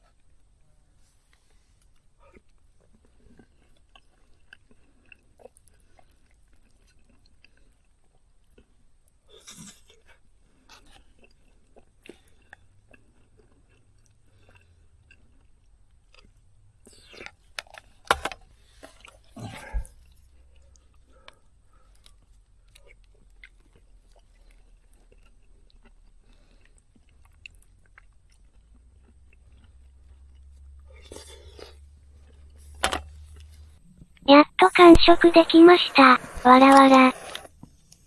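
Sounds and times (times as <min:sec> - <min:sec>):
person chewing food: 0:01.4 - 0:33.8.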